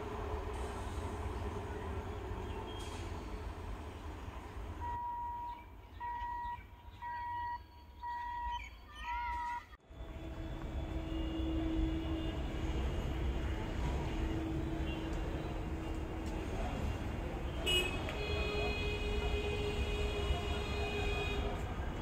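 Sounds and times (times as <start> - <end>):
train rumble: 0.0 - 6.4, 9.8 - 22.0.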